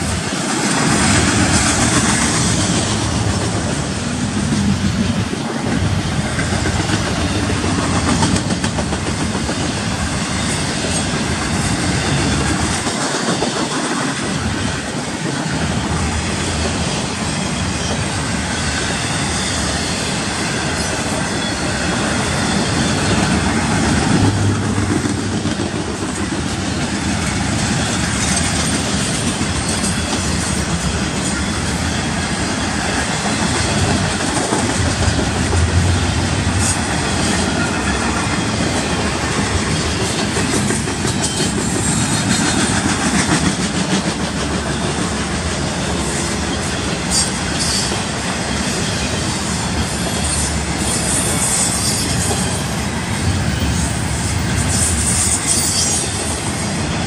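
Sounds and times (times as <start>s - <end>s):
freight train wheels rolling: 0.0s - 57.0s.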